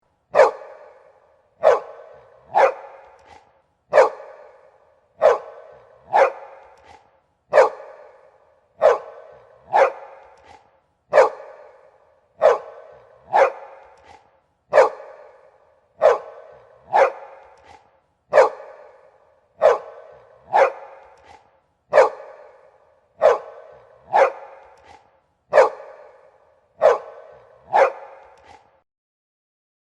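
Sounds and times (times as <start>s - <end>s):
big dog barking: 0.3s - 28.8s.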